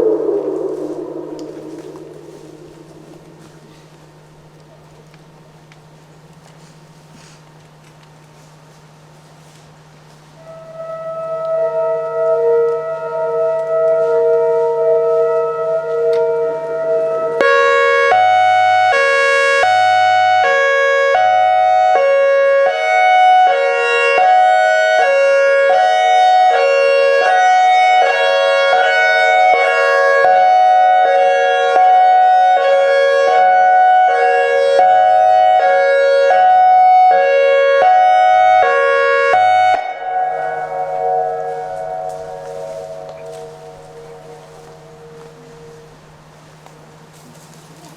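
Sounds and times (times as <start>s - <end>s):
electronic siren: 0.0s - 4.6s, 10.4s - 46.4s.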